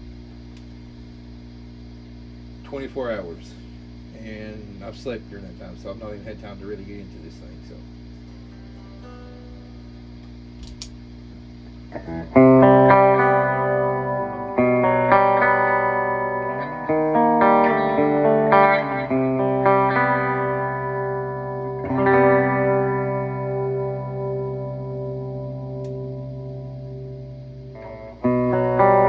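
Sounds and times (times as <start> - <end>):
electric guitar chords: 0.0 - 29.0
low amp hum: 0.0 - 29.0.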